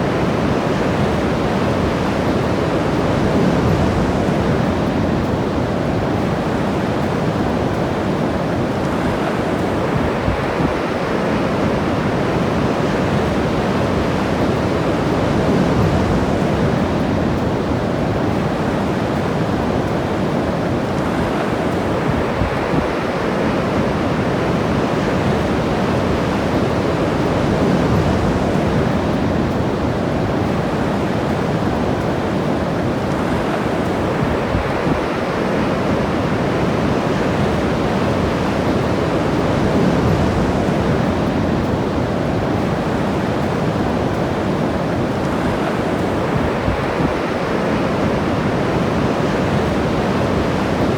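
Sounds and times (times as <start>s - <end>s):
ocean surf washing onto beach: 0.0s - 50.9s
wind buffeting microphone: 0.0s - 50.9s.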